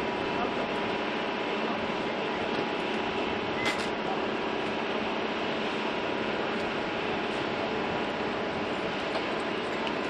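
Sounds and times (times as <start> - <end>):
engine roar: 0.0 - 10.0.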